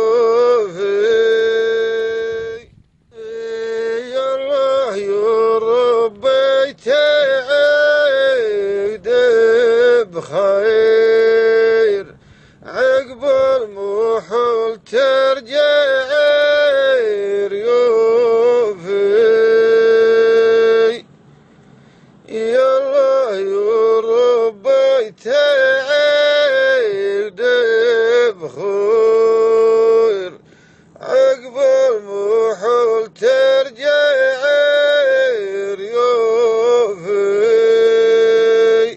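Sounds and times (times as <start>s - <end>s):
man singing slow melody: 0.0s - 21.2s, 22.2s - 38.9s.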